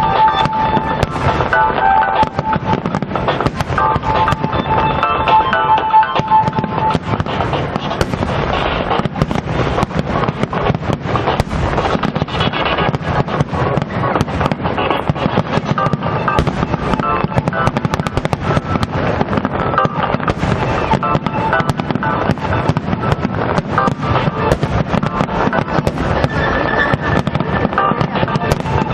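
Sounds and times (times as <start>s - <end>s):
fireworks bangs and crackles: 0.0s - 28.9s
music playing: 0.0s - 28.9s.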